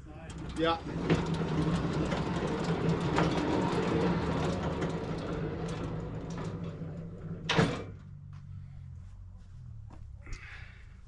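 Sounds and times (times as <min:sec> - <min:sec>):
bandsaw mill engine hum: 0:00.0 - 0:10.8.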